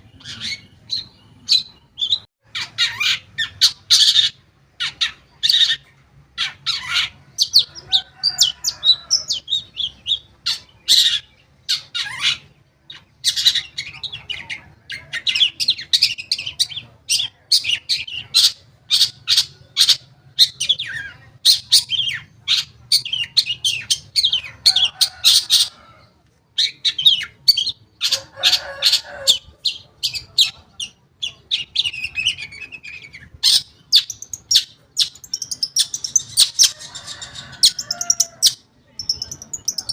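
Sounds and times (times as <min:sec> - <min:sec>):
shrike chattering and squawking: 0:00.0 - 0:39.9.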